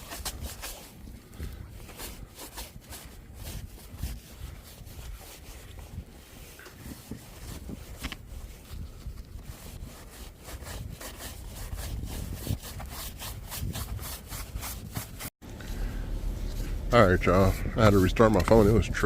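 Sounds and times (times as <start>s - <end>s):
snow brush sweeping snow: 0.0s - 19.0s.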